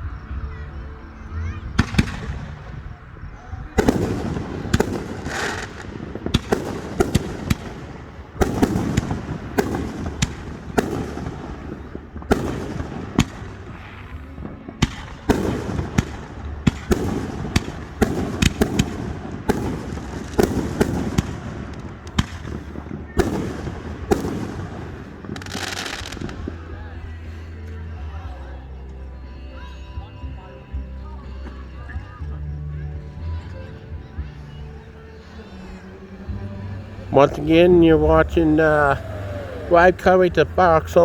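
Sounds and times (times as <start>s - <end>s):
fireworks bursting with echo: 1.8s - 28.3s, 33.0s - 41.0s.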